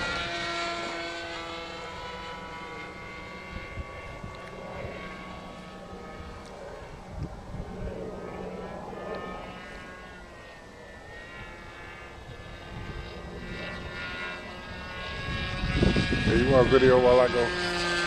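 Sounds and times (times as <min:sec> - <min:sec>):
model airplane engine in flight: 0:00.0 - 0:18.0.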